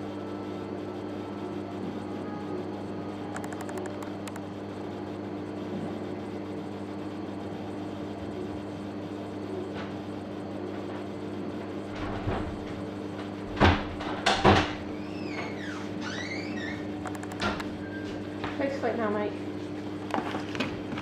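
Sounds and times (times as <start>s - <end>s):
aquarium equipment humming: 0.0s - 21.0s.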